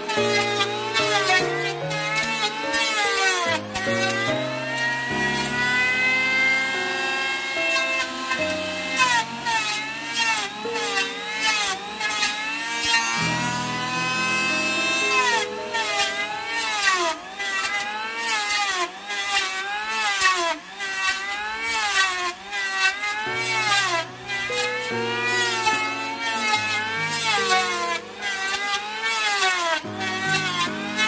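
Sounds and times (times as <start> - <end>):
electric planer shaving wood: 0.0 - 31.0.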